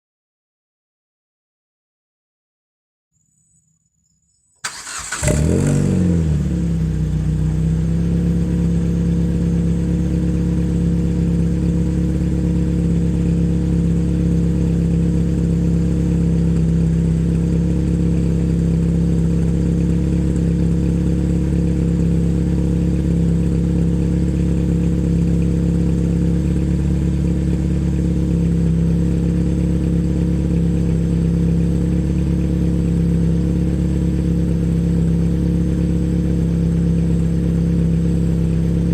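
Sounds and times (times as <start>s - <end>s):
car engine starting and idling: 4.6s - 38.9s.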